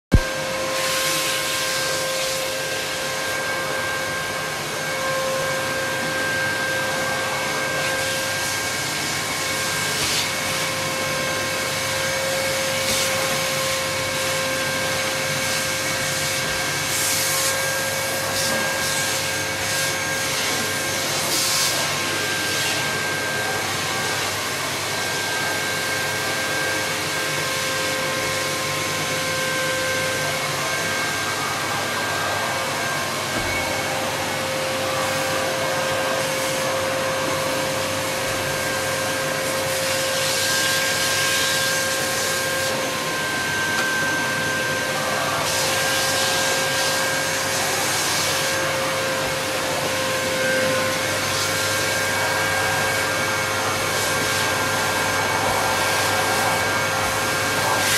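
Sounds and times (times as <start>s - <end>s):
vacuum cleaner running: 0.1s - 57.9s.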